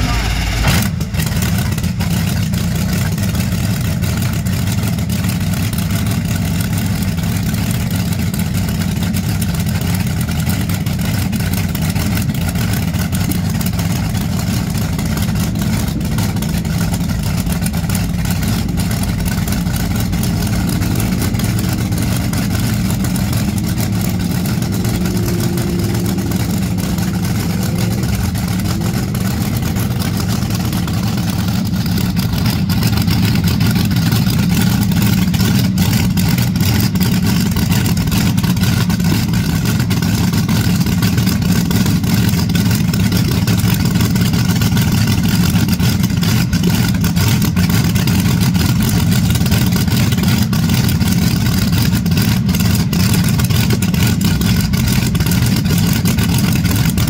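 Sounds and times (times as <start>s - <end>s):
dragster engine idling: 0.0s - 57.0s.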